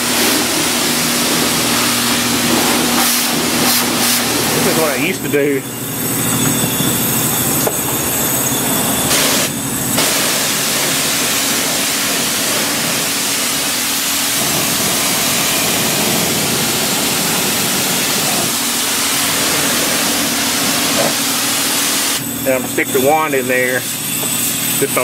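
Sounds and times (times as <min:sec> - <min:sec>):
pump hum: 0:00.0 - 0:25.0
water jet hissing: 0:00.0 - 0:25.0.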